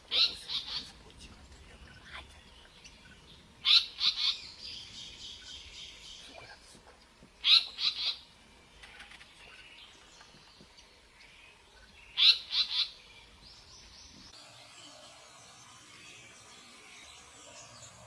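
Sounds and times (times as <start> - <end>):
small bird chirping: 0.1 - 14.8.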